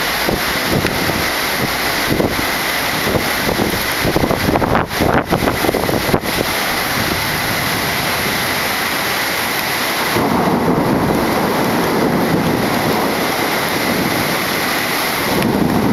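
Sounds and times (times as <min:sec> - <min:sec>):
heavy rain hissing: 0:00.0 - 0:15.9
thunder rumbling: 0:00.0 - 0:15.9.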